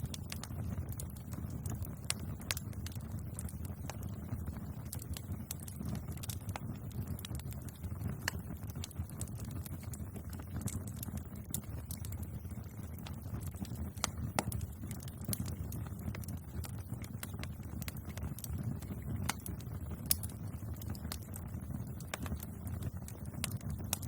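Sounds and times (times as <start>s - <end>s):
fire crackles and pops: 0.0s - 24.0s
wood fire rumbling: 0.0s - 24.0s.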